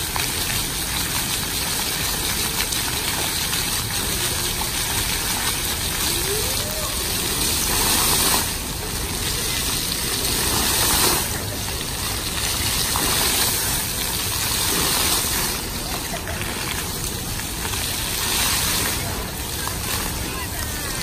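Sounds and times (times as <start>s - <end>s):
fountain water jets splashing: 0.0s - 21.0s.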